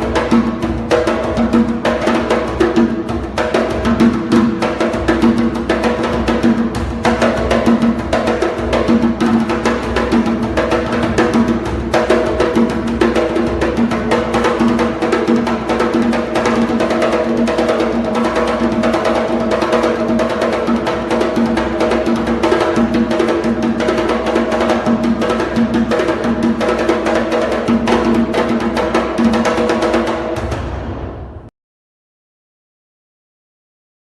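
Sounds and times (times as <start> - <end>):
drums in fast steady rhythm: 0.0 - 31.2.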